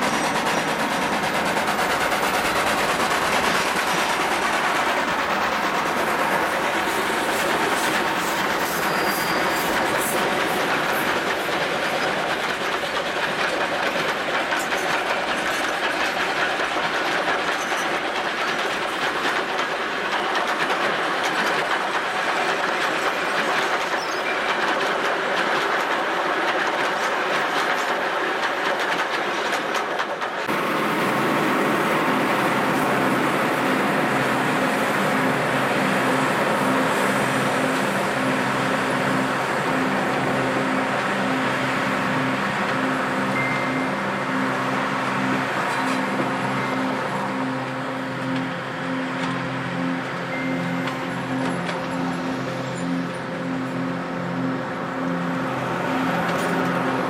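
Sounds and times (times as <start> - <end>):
train running noise: 0.0 - 57.0
train wheels clattering: 0.0 - 57.0.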